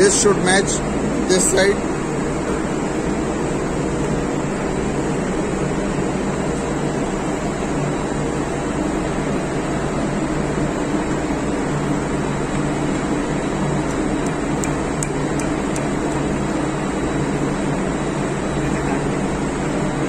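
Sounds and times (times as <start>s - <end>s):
engine-room machinery drone: 0.0s - 20.0s.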